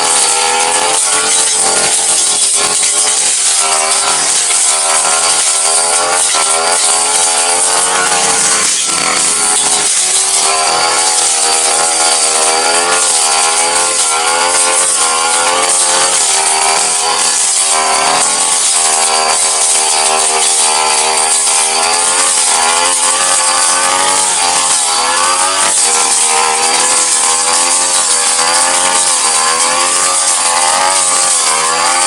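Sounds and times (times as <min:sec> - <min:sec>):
brush cutter engine: 0:00.0 - 0:32.0.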